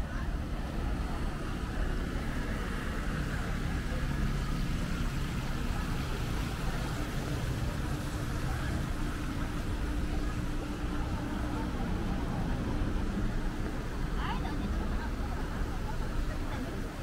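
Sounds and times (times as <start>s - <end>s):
low rumble of outdoor noise: 0.0s - 17.0s.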